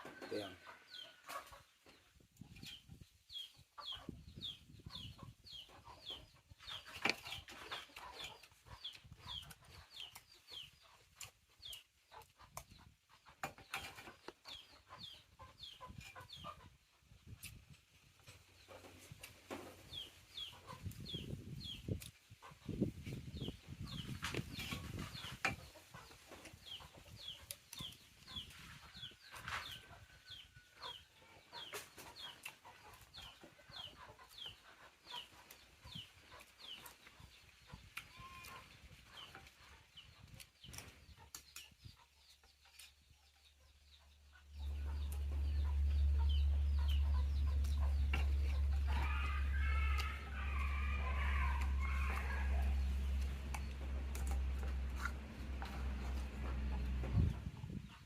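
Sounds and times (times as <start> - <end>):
small bird peeping: 0.4 - 58.0.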